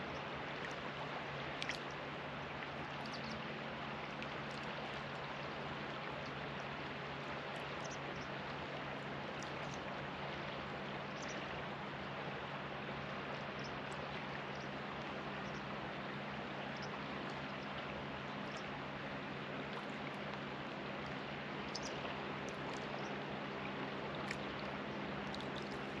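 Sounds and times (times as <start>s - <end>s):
water plinks and splashes: 0.0s - 11.6s, 16.4s - 26.0s
low steady hum: 0.0s - 26.0s
river water running over stones: 0.0s - 26.0s.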